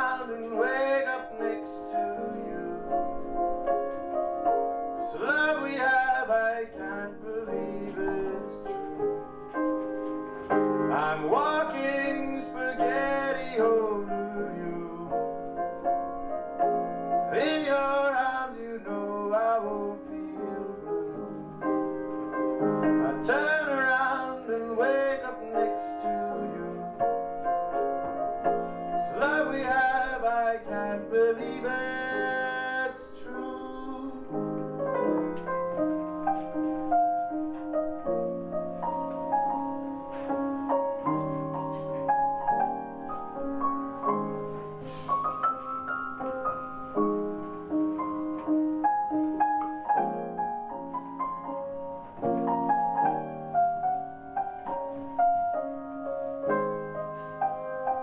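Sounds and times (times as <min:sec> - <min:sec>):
keyboard chords: 0:00.0 - 0:58.0.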